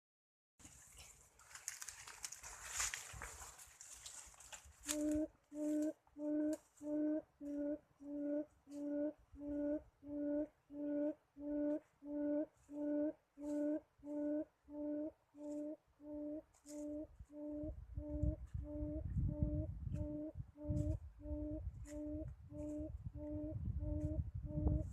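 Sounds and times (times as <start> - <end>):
bird hooting: 4.8 - 24.9.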